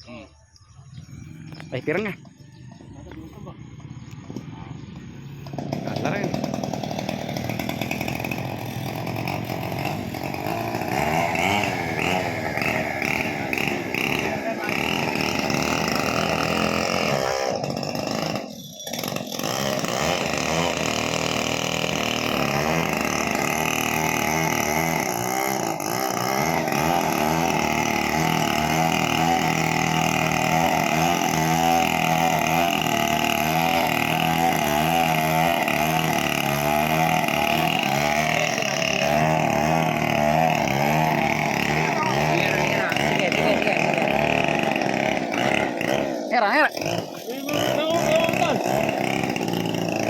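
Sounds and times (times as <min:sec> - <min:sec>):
chainsaw cutting wood: 0:01.0 - 0:50.0.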